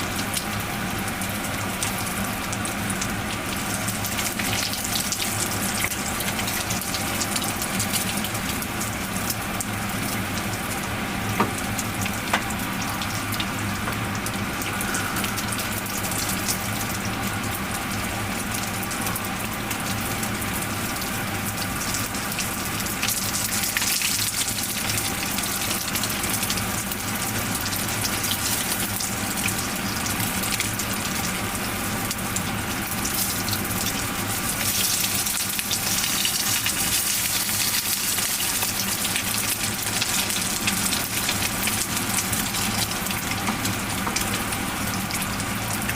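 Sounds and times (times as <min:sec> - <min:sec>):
food deep-frying in hot oil: 0:00.0 - 0:45.9.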